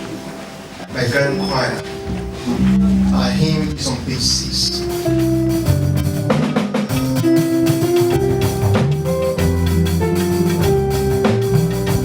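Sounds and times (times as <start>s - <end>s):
church band playing: 0.0s - 12.0s.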